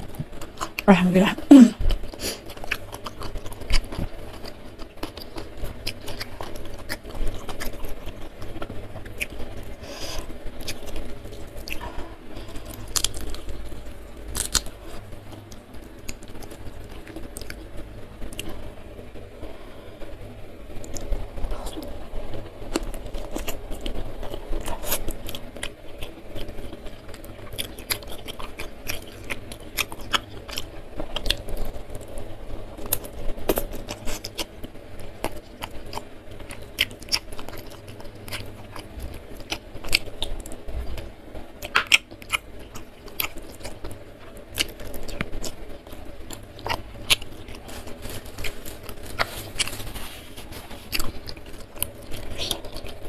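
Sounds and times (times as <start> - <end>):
chewing crunchy fried food: 0.0 - 53.0.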